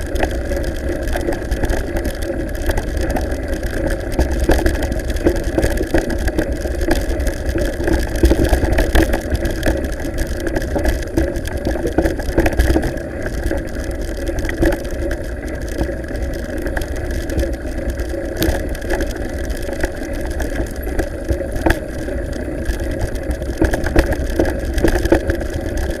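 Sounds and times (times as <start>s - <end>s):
bike rattling over gravel: 0.0s - 26.0s.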